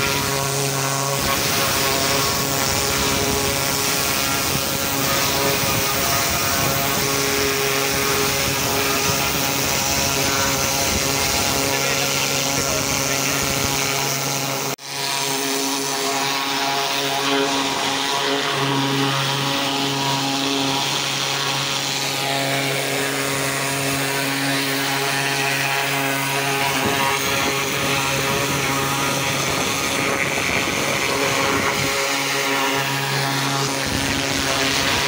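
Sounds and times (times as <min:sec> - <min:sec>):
high-pressure water jet hissing: 0:00.0 - 0:35.0
pressure washer motor and pump hum: 0:00.0 - 0:35.0.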